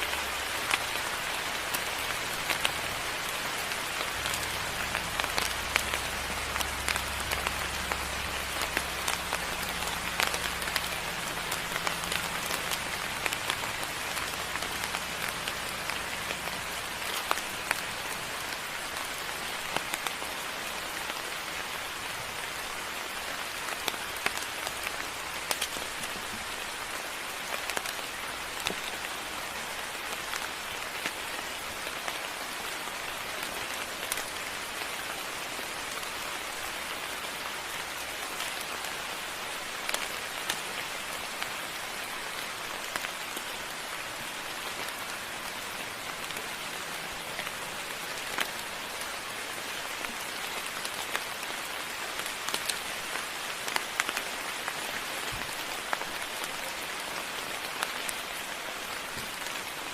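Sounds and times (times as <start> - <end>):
rain falling: 0.0 - 59.9
raindrops ticking close by: 0.0 - 59.9.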